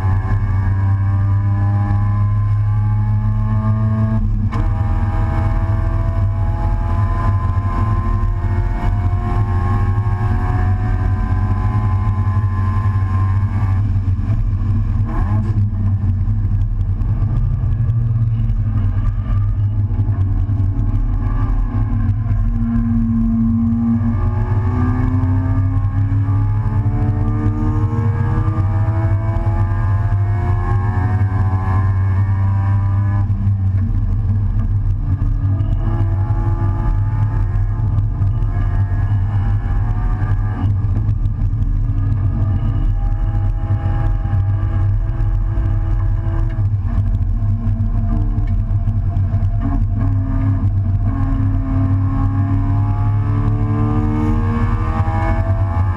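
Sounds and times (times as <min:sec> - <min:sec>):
race car engine accelerating: 0:00.0 - 0:55.9
rumble of wind and road noise: 0:00.0 - 0:55.9.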